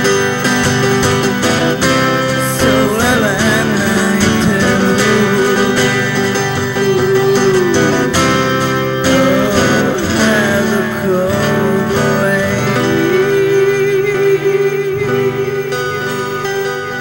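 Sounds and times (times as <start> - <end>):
acoustic guitar strumming: 0.0 - 17.0
wavering melody line: 0.0 - 17.0.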